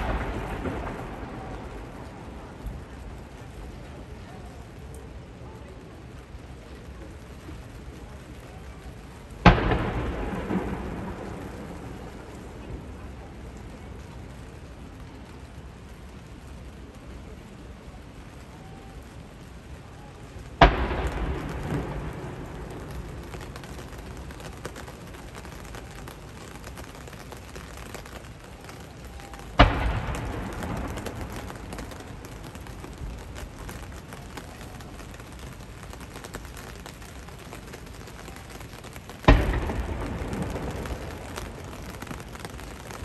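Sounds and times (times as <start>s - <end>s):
long rolling echo: 0.0s - 43.0s.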